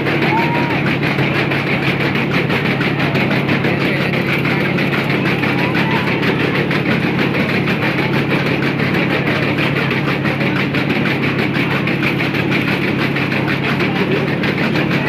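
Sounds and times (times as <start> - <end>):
low mechanical hum: 0.0 - 15.0
ride cars rattling on rails: 0.0 - 15.0.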